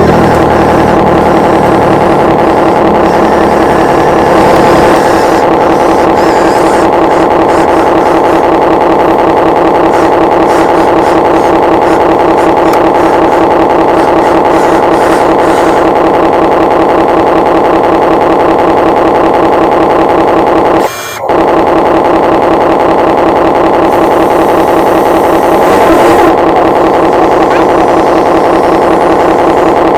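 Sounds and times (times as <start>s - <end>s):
toy excavator motor whining: 0.0s - 29.9s.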